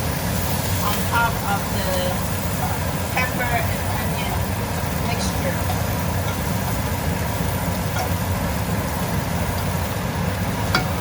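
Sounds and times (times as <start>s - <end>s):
low mechanical hum: 0.0s - 11.0s
utensil clinking in frying pan: 0.3s - 11.0s.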